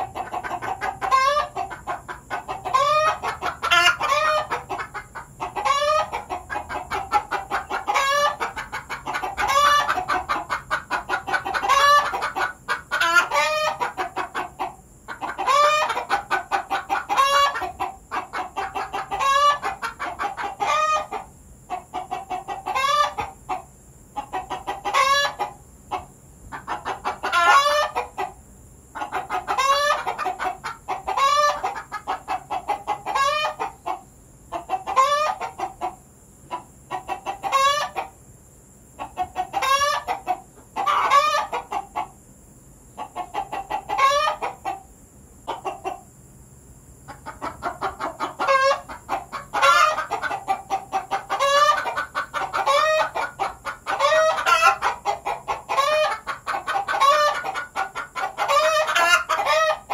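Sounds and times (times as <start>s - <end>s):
hens clucking and cackling: 0.0s - 59.9s.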